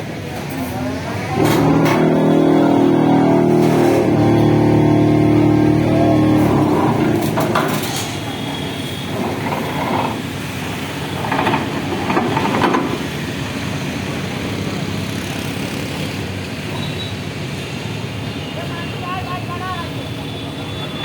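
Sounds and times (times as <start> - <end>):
heavy engine running: 0.0 - 21.0.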